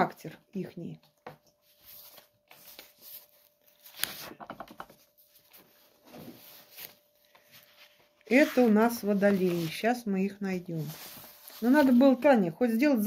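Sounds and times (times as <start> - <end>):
book pages rustling: 1.1 - 12.3.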